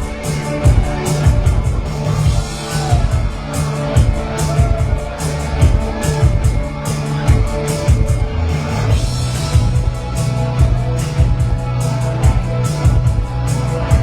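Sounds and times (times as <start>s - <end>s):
bass line: 0.0s - 14.0s
live band playing new wave: 0.0s - 14.0s
steady drum beat: 0.0s - 14.0s.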